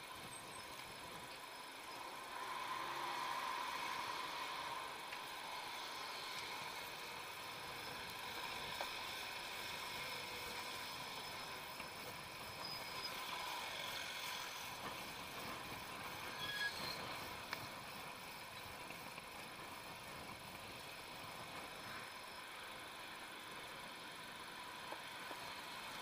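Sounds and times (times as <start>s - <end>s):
tyre and wind hiss: 0.0s - 26.0s.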